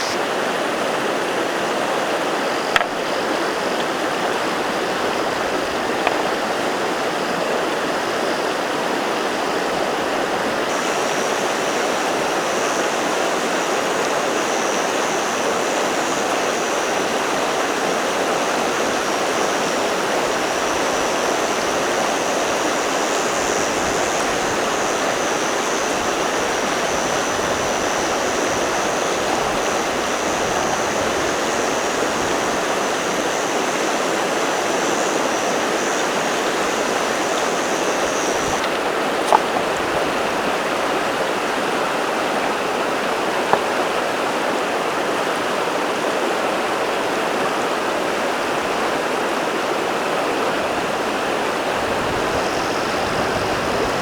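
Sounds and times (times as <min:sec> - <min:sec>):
insect high continuous call: 0:00.0 - 0:45.0, 0:49.4 - 0:54.0
water rushing over stones: 0:00.0 - 0:53.0.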